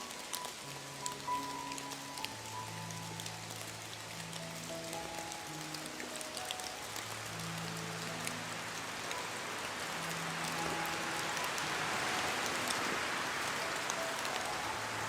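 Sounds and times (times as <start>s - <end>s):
rain on hard surfaces: 0.0s - 15.0s
soft background music: 0.0s - 15.0s.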